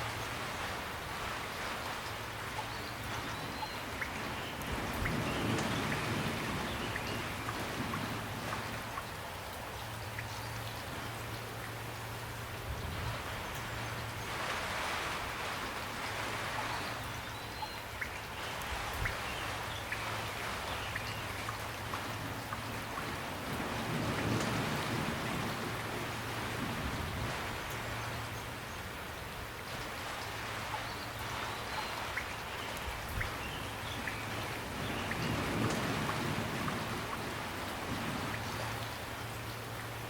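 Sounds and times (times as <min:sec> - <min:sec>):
gentle rain: 0:00.0 - 0:40.0.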